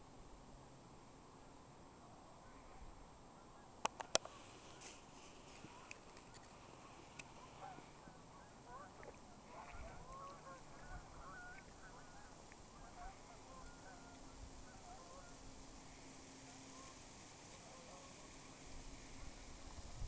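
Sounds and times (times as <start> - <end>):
faint geese honking: 1.9 - 19.8.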